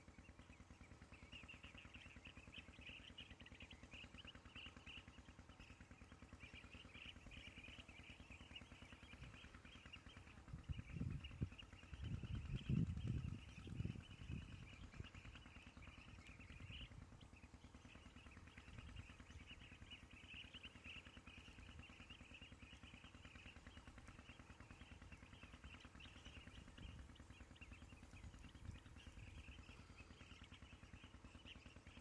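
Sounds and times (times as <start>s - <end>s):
birds twittering: 0.0s - 32.0s.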